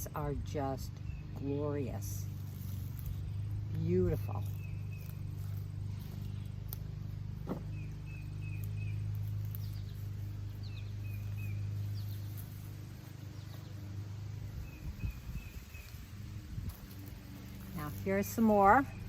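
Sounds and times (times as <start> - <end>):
steady low hum: 0.0 - 19.0
bird chirping: 0.6 - 19.0.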